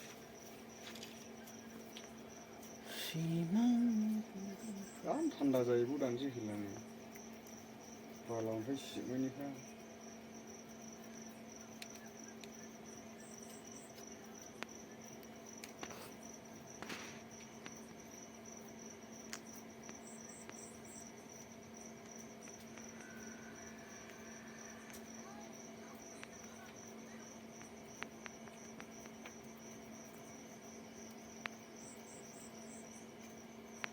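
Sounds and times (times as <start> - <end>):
cricket chirping: 0.0 - 33.9
low steady hum: 0.0 - 33.9.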